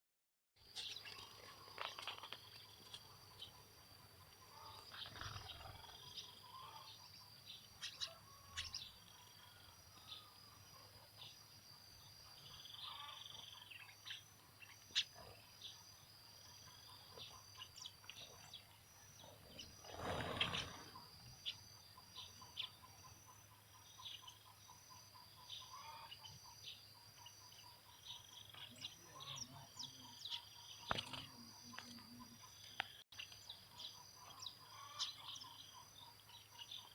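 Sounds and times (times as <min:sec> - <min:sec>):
birds chirping: 0:00.6 - 0:36.9.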